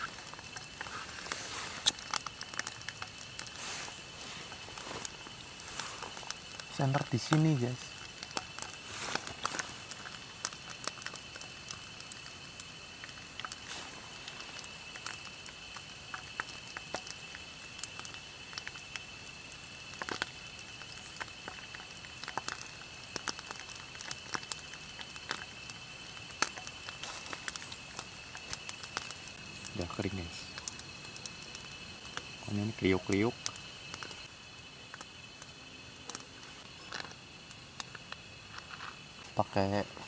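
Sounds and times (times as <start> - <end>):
oil frying and popping: 0.0 - 40.0.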